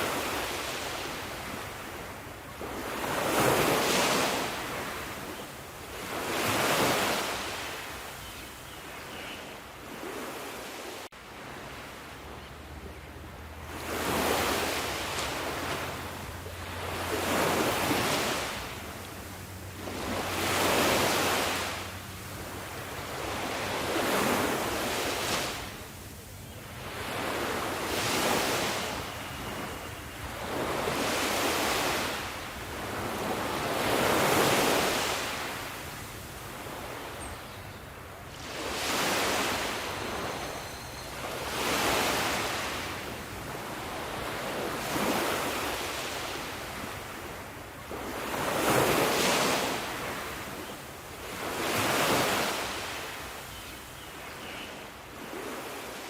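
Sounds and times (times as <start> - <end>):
ocean waves washing in: 0.0 - 8.1, 9.8 - 37.2, 38.1 - 50.3.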